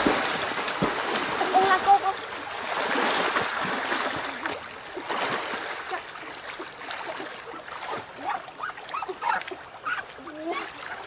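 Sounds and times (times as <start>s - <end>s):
water splashing from wading: 0.0s - 11.0s.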